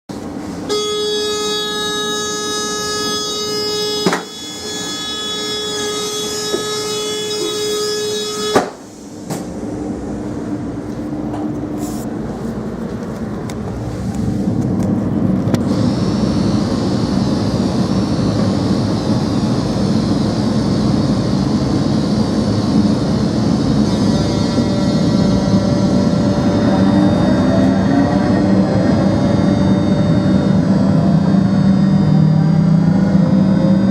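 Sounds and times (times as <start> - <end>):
diesel railcar engine running: 0.1 - 33.9
steady high tone with overtones: 0.6 - 33.9.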